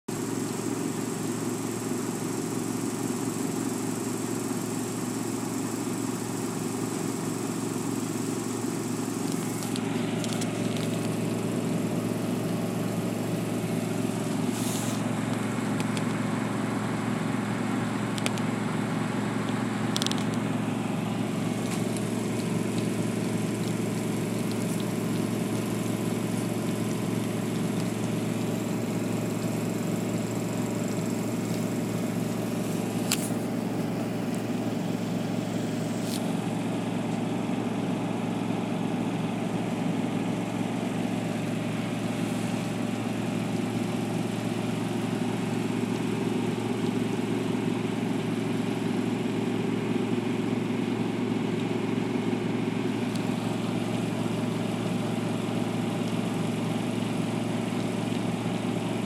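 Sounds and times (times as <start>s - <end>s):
low mechanical hum: 0.1s - 59.0s.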